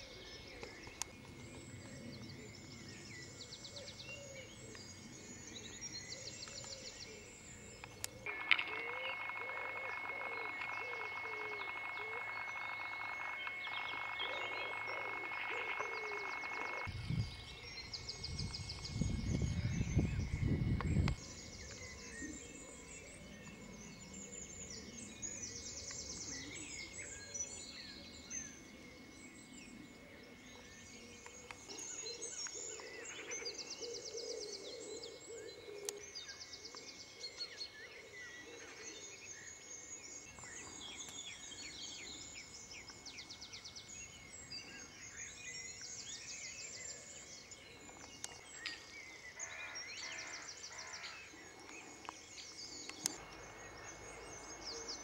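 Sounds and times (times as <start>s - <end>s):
faint outdoor background noise: 0.0s - 55.0s
songbirds singing and chirping: 0.0s - 55.0s.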